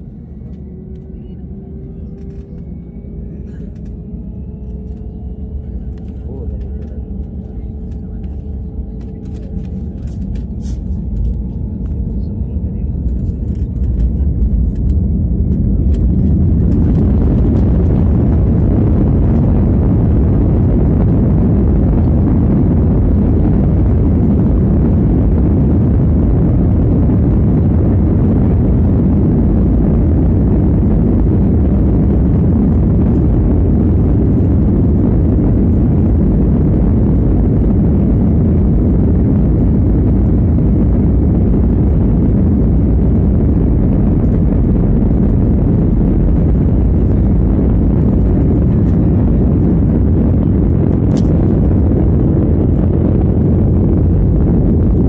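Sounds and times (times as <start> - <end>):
jet engine cabin roar: 0.0 - 55.0.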